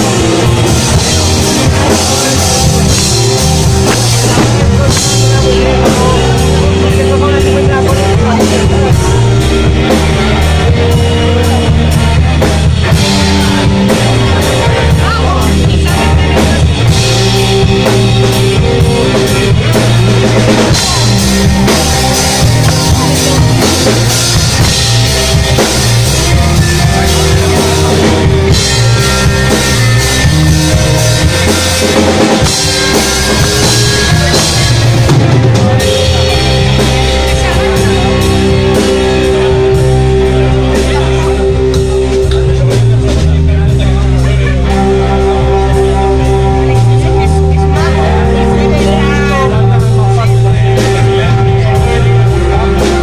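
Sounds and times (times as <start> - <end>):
live rock band playing: 0.0 - 53.0.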